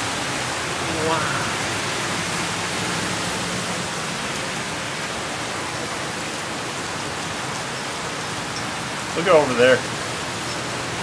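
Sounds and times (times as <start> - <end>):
heavy rain pouring: 0.0 - 11.0
low engine hum: 0.0 - 11.0.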